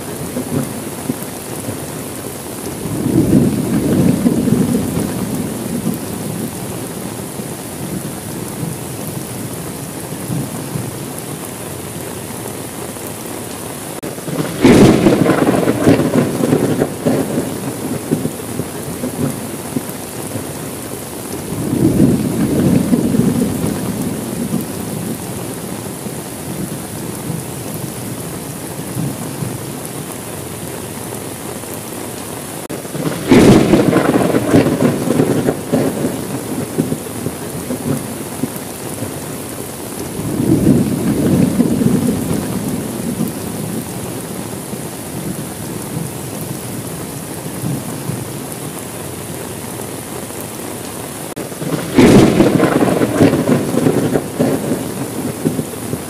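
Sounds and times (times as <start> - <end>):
thunder rumbling: 0.0 - 31.0, 32.6 - 49.4, 51.3 - 56.0
steady rain: 0.0 - 56.0.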